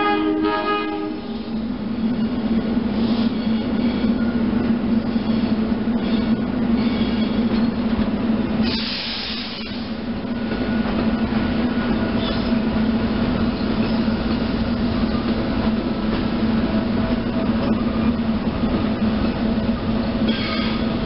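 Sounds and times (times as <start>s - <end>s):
train hum: 0.0s - 21.0s.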